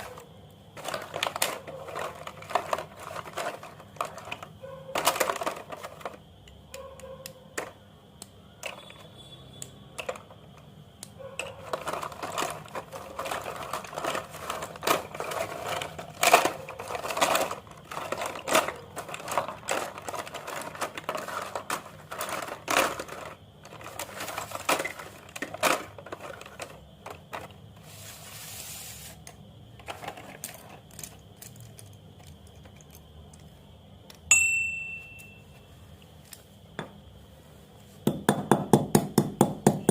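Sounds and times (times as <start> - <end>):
slate pencils snapping and crunching: 0.0 - 9.0, 9.6 - 27.6, 29.2 - 34.3.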